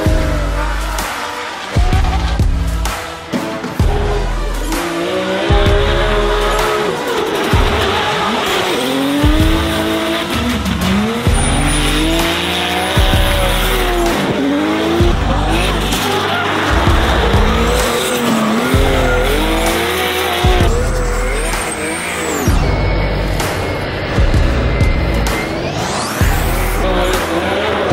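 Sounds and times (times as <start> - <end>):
background music with low beat: 0.0 - 27.9
car engine revving: 0.0 - 27.9.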